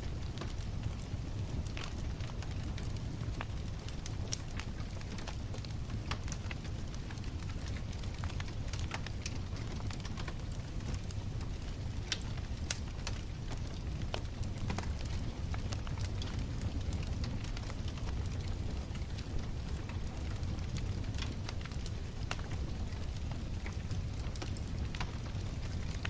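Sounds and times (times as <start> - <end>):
bonfire crackling and popping: 0.0 - 26.0
low fire rumble: 0.0 - 26.0.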